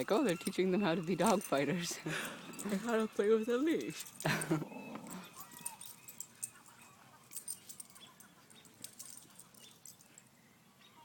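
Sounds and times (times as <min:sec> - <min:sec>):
metallic clinks of leash tags: 0:00.0 - 0:10.4.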